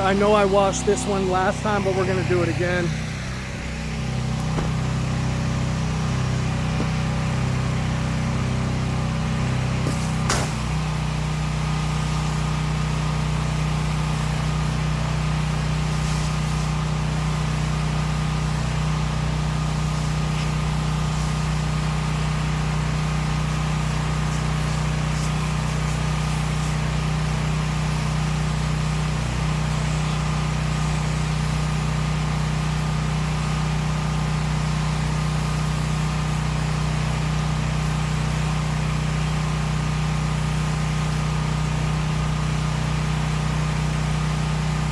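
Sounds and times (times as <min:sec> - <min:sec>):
pressure washer engine running: 0:00.0 - 0:44.9.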